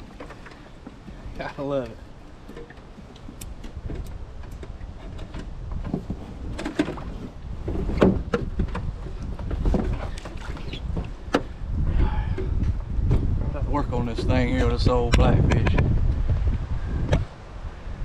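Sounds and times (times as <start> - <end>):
low rumble on water: 0.0 - 18.0.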